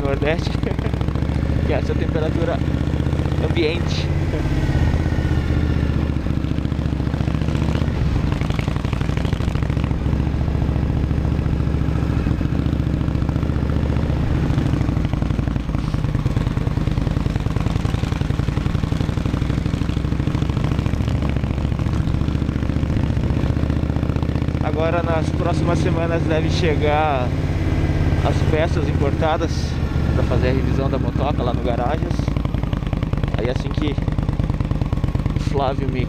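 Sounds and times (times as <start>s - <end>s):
motorcycle engine running steadily: 0.0s - 36.0s.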